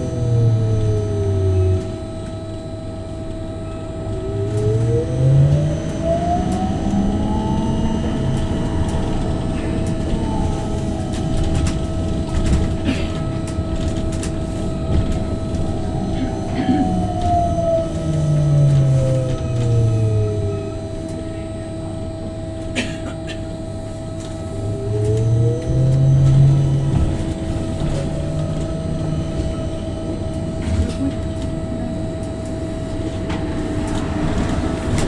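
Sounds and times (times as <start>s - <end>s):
electric drive whining: 0.0s - 21.2s, 23.6s - 35.0s
road rumble: 0.0s - 35.0s.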